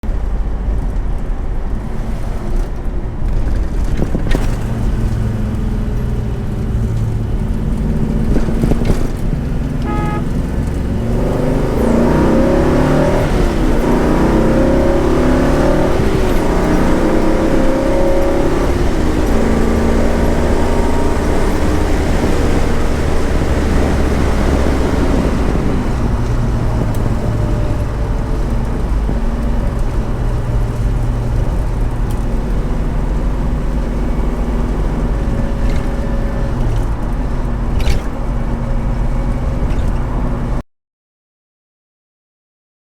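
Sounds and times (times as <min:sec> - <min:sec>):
road noise: 0:00.0 - 0:40.6
car engine accelerating through gears: 0:00.1 - 0:40.6.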